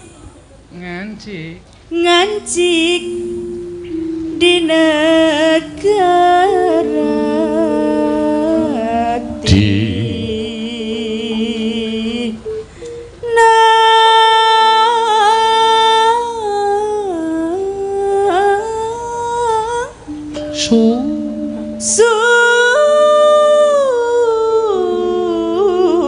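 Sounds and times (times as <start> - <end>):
woman singing: 1.9 - 12.6, 13.2 - 26.0
gamelan instruments: 2.4 - 16.3, 18.2 - 26.0.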